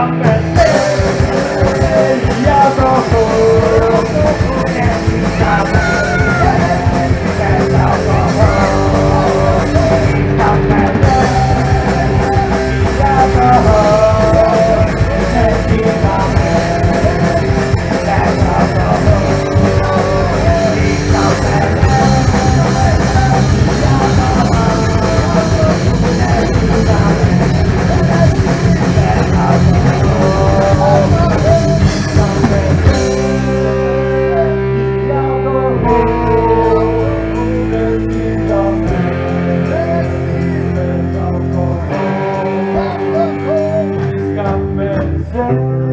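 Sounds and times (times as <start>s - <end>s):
bass guitar: 0.0s - 45.9s
distorted electric guitar: 0.0s - 45.9s
drum kit: 0.0s - 45.9s
person singing: 0.0s - 45.9s.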